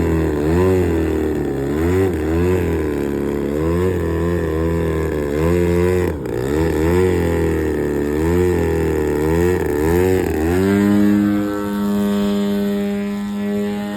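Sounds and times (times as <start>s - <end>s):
motor note wavering: 0.0s - 13.9s.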